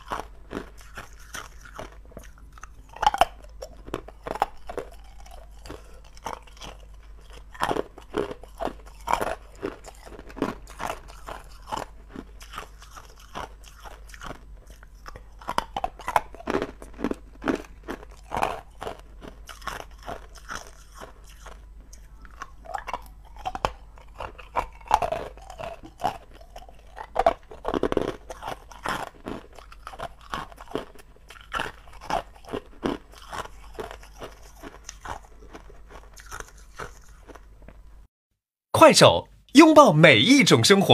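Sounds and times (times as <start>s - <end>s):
ice cubes crunching in mouth: 0.0s - 37.8s.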